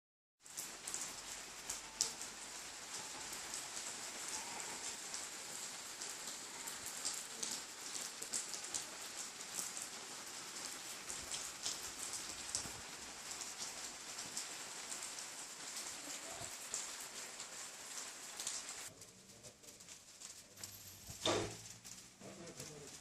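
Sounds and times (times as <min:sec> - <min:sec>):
steady rain hiss: 0:00.4 - 0:23.0.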